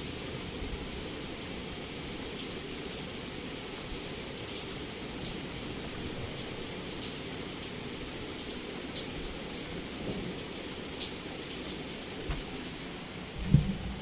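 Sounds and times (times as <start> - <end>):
heavy rain against a window: 0.0 - 14.0.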